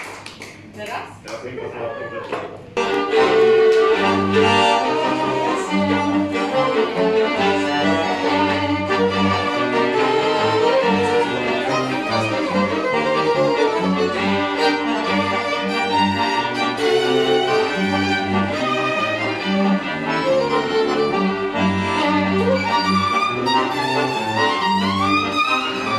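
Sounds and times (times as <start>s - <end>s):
accordion chords: 2.7s - 25.9s
bowed bass: 2.7s - 25.9s
fiddles playing tune: 2.7s - 25.9s.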